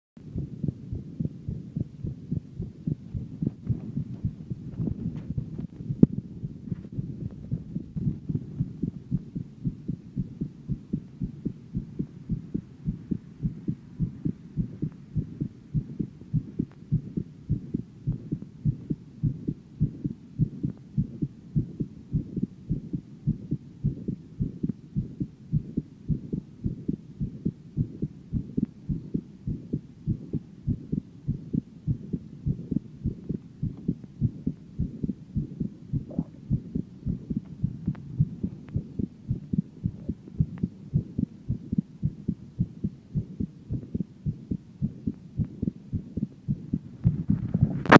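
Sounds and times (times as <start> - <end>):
heartbeat thuds: 0.2 - 47.9.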